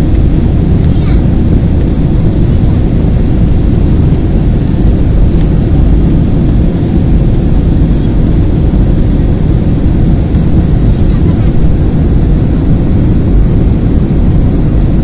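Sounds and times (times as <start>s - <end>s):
jet engines rumbling: 0.0s - 15.0s
rushing air: 0.0s - 15.0s.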